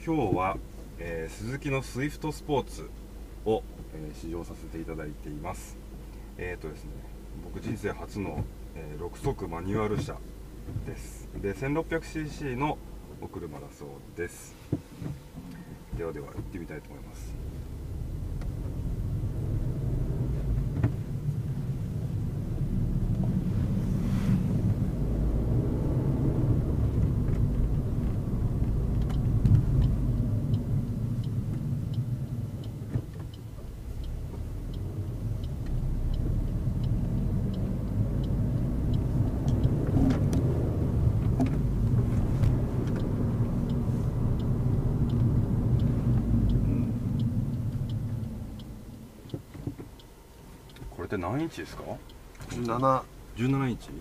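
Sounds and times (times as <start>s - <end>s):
car engine running: 0.0s - 54.0s
turn signal ticking: 0.0s - 54.0s.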